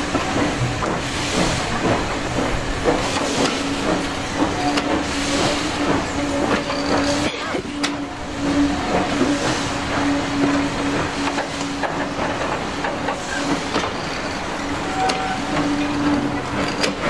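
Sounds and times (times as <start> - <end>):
steam locomotive exhaust: 0.0 - 17.0
train wheels clicking on rails: 0.0 - 17.0.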